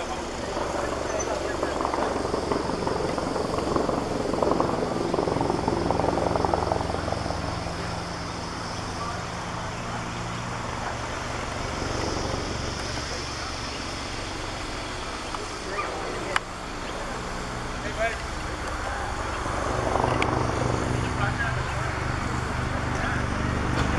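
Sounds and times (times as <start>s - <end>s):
distant helicopter drone: 0.0s - 23.9s.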